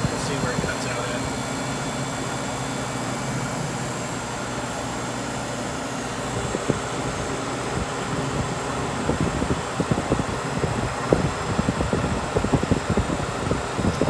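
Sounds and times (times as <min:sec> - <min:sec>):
compressor and fan humming: 0:00.0 - 0:14.0.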